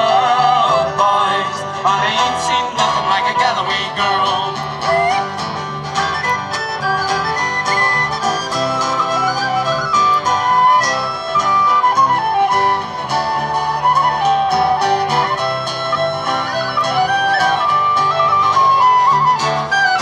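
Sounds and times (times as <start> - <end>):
plucked string accompaniment: 0.0 - 20.0
tin whistle melody: 3.2 - 20.0.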